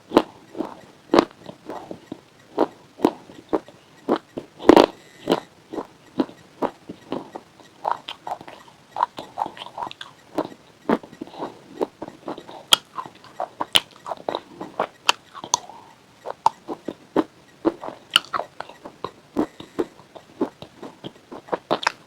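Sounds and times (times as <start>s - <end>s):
crunching and chewing chips: 0.1s - 22.0s.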